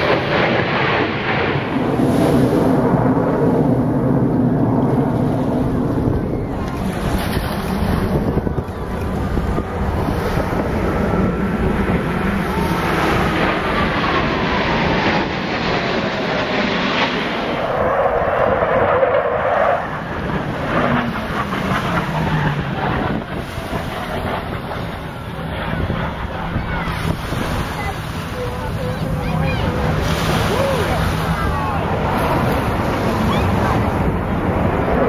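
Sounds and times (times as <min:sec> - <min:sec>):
jets roaring overhead: 0:00.0 - 0:35.0
wind buffeting microphone: 0:00.0 - 0:35.0.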